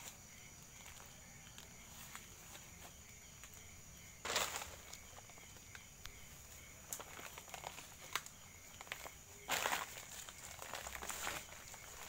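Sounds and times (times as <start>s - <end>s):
footsteps through undergrowth: 0.0s - 12.0s
night insects trilling: 0.0s - 12.0s.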